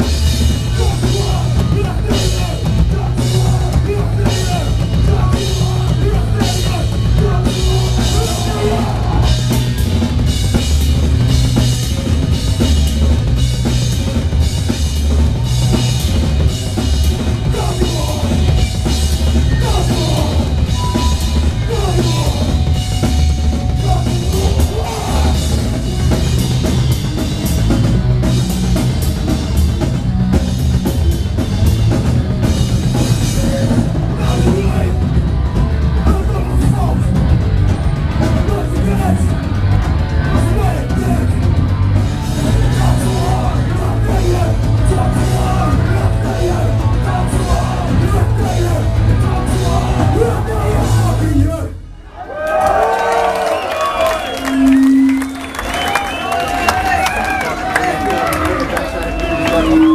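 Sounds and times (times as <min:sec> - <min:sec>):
drum kit playing: 0:00.0 - 0:51.8
distorted electric guitar: 0:00.0 - 0:52.0, 0:53.8 - 0:59.9
bass guitar: 0:00.0 - 0:59.9.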